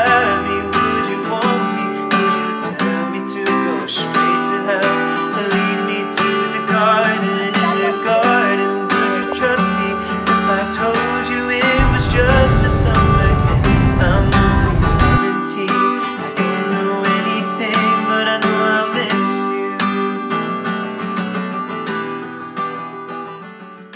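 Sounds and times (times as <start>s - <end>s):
strummed acoustic guitar music: 0.0s - 23.9s.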